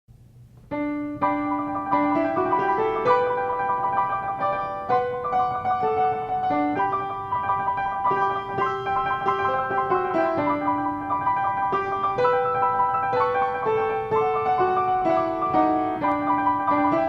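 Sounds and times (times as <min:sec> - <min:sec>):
piano music: 0:00.6 - 0:17.0.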